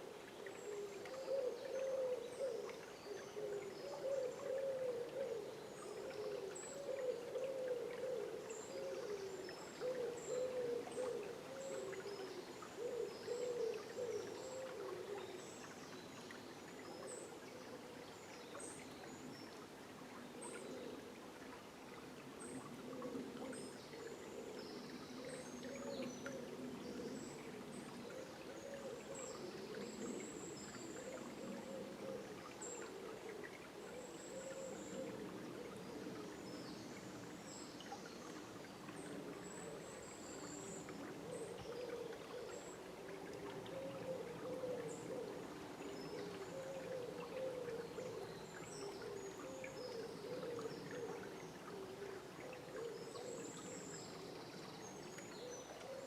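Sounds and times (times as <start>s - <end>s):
river water burbling: 0.0s - 56.0s.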